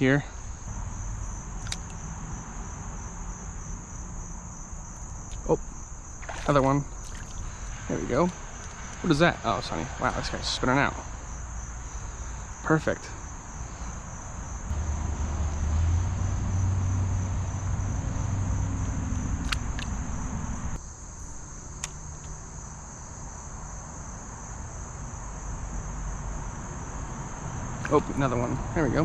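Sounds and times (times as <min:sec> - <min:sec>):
crickets droning: 0:00.0 - 0:29.0.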